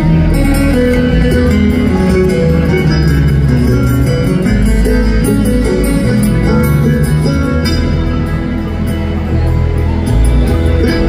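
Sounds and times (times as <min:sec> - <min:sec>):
acoustic guitars picking: 0:00.0 - 0:11.0
fiddle: 0:00.0 - 0:11.0
upright bass: 0:00.0 - 0:11.0.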